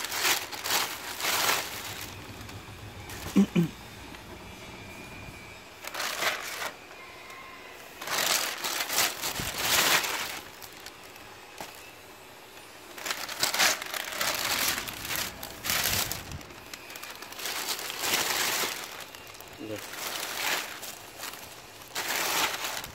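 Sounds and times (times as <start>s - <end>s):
plastic bag crinkling: 0.0s - 22.9s.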